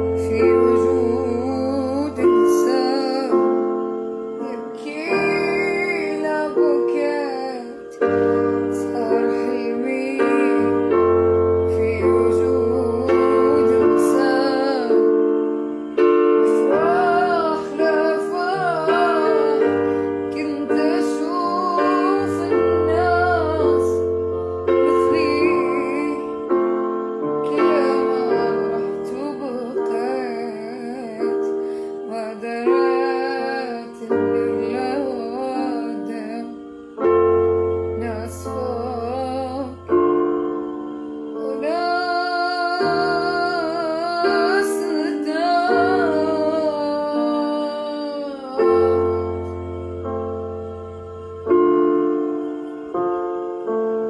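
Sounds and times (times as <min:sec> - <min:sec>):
piano chords: 0:00.0 - 0:54.0
woman singing slow melody: 0:00.0 - 0:54.0.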